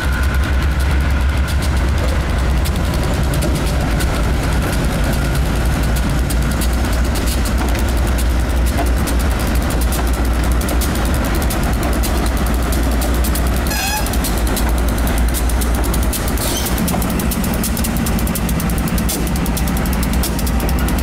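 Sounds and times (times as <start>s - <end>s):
diesel locomotive engine rumble: 0.0s - 21.0s
wheels ticking on track: 0.0s - 21.0s.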